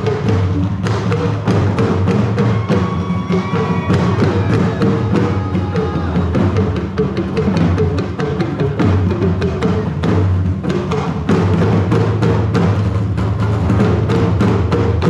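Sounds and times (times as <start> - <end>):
steady low drum pattern: 0.0 - 15.0
talking drums pitch-bending strokes: 0.0 - 15.0.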